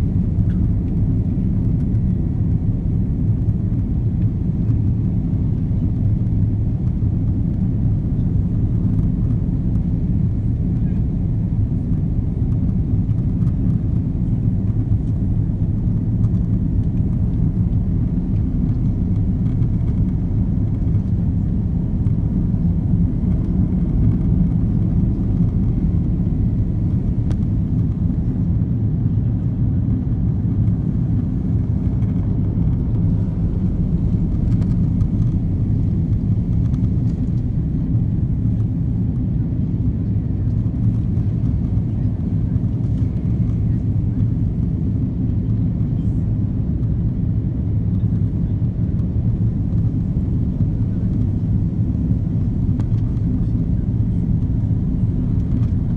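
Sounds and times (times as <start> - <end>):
aircraft cabin engine and airflow rumble: 0.0 - 55.9.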